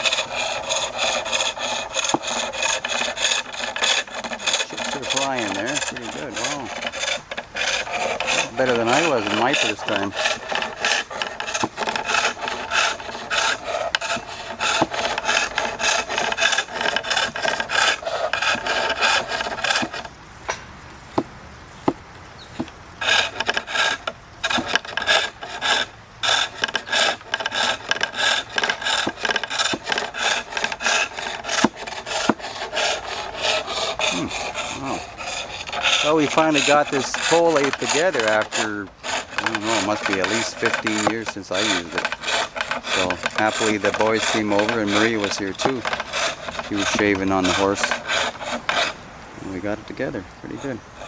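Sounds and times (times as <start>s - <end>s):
lathe tool scraping wood: 0.0s - 20.2s, 22.6s - 51.0s.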